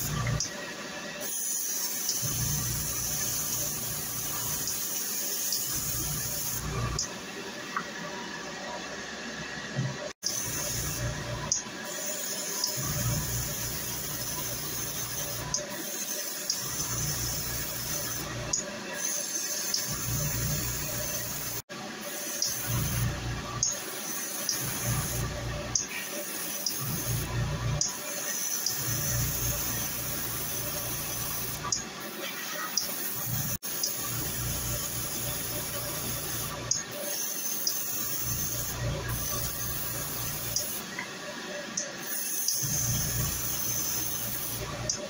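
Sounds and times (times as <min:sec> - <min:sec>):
airbrush spraying paint: 0:00.0 - 0:07.1, 0:10.1 - 0:45.0.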